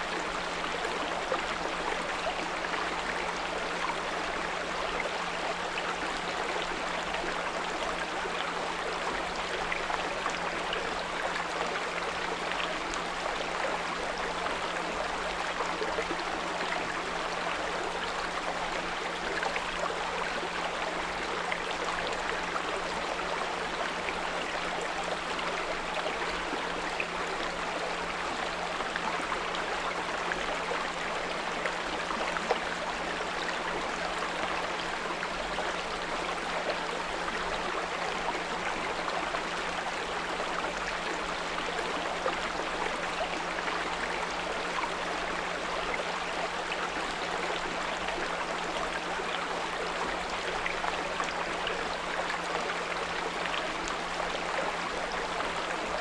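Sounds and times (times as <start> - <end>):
brook babbling: 0.0 - 56.0.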